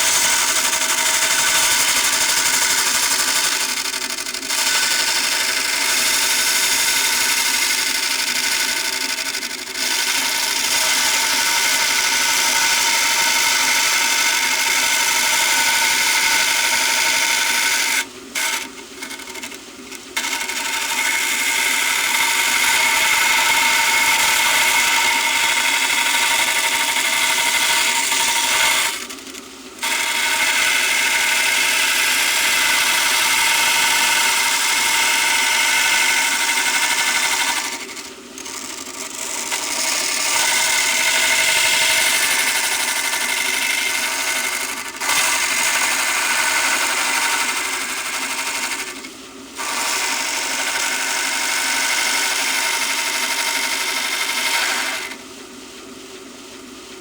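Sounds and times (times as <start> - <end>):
belt sander grinding: 0.0 - 19.6, 20.2 - 29.1, 29.8 - 55.2.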